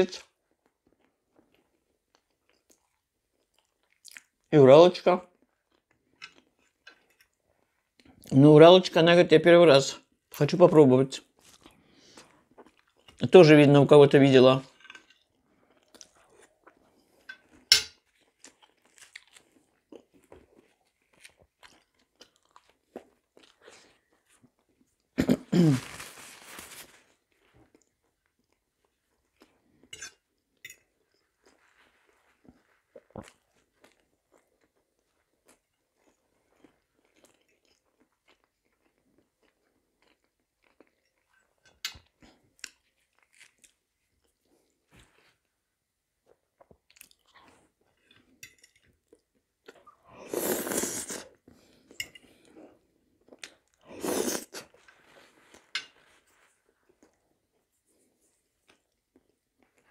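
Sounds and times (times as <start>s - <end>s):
person chewing food: 0.3s - 4.4s, 11.3s - 13.2s, 15.0s - 25.2s, 27.0s - 45.6s, 46.2s - 59.9s.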